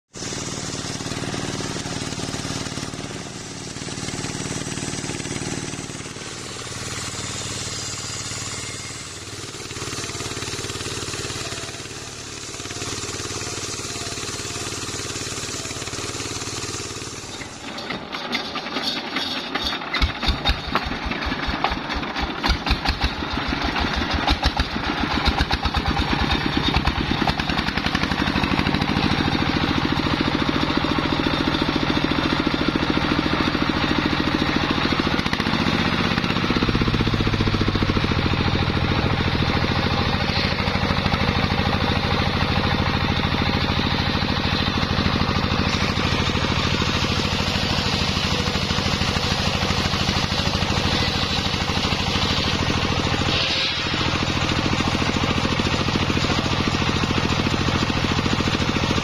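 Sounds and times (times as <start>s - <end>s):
circular saw cutting logs: 0.1s - 59.0s
diesel engine firing beats: 0.1s - 59.0s.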